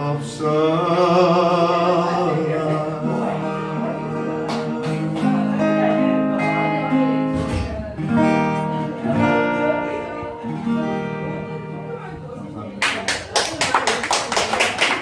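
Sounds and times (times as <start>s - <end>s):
acoustic guitar strumming chords: 0.0s - 13.1s.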